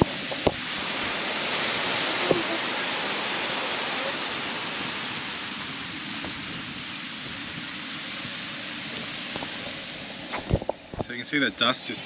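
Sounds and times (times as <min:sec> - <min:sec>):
wind blowing over microphone: 0:00.0 - 0:12.0.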